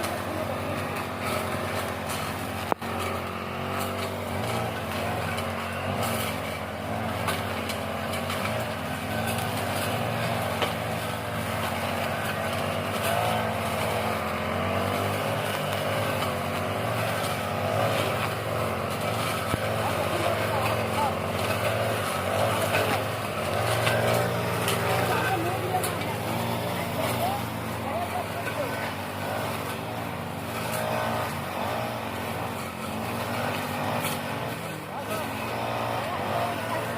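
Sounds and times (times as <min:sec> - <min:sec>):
engine running: 0:00.0 - 0:36.9.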